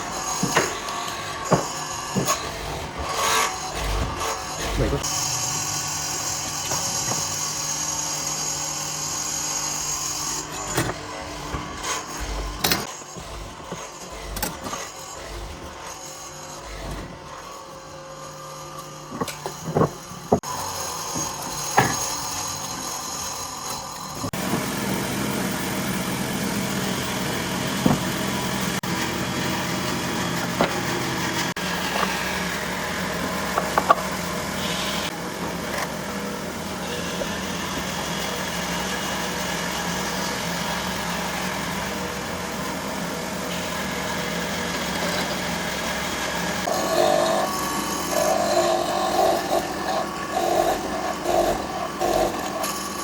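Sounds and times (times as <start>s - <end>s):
electric power tool humming: 0.0s - 53.0s.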